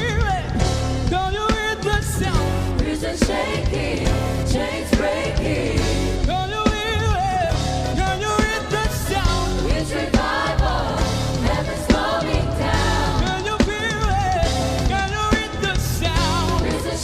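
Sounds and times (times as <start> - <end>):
live band with bass and drums: 0.0 - 17.0
gospel choir singing: 2.0 - 17.0.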